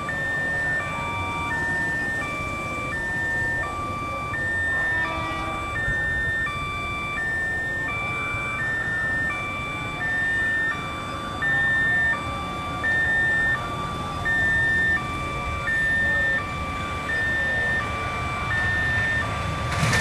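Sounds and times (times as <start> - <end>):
electronic two-tone warning alarm: 0.0 - 20.0.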